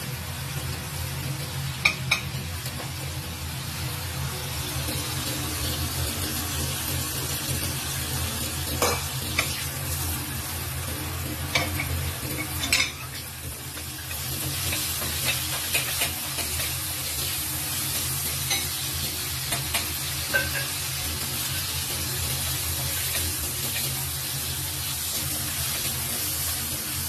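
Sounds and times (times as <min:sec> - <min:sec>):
garlic sizzling in hot oil: 0:00.0 - 0:27.0.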